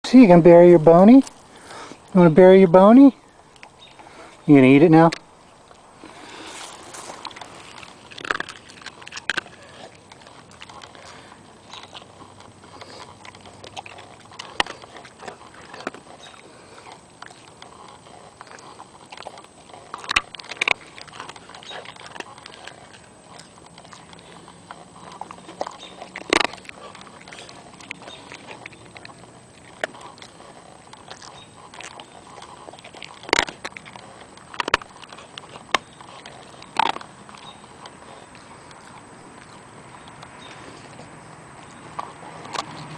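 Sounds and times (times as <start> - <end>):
dog crunching a biscuit: 0.0 - 42.9.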